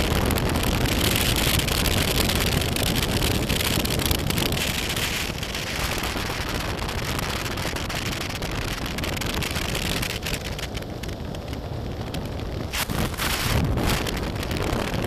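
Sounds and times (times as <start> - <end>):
motorcycle running: 0.0 - 15.0
wind rushing over microphone: 0.0 - 15.0.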